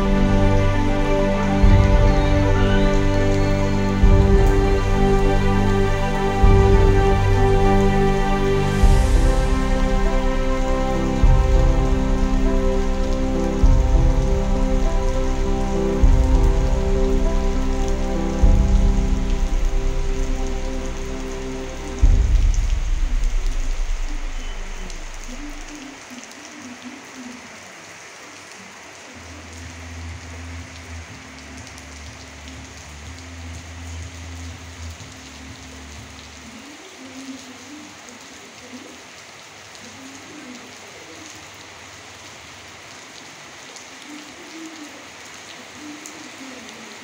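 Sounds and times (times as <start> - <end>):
rain on leaves and concrete: 0.0 - 47.0.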